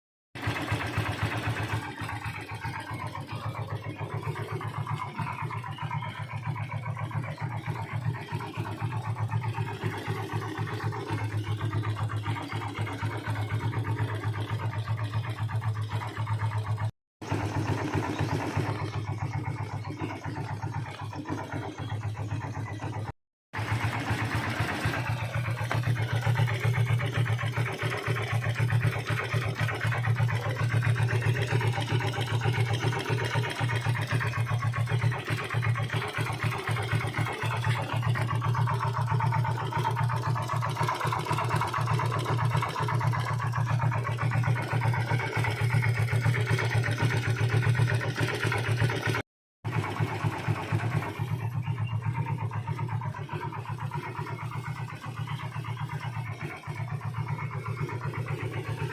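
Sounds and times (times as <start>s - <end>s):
motorcycle engine idling: 0.4s - 58.9s
rapid engine knocking: 0.4s - 58.9s.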